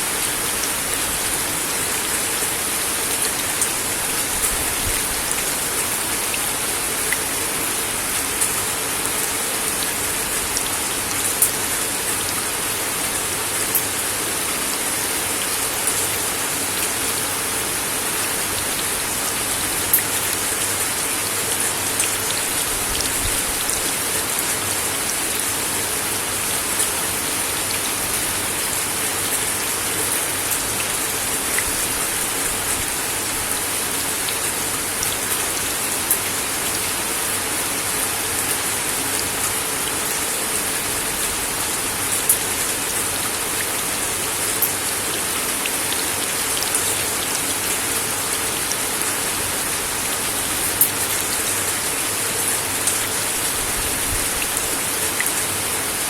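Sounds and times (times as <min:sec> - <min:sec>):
rain on a wooden deck: 0:00.0 - 0:56.0.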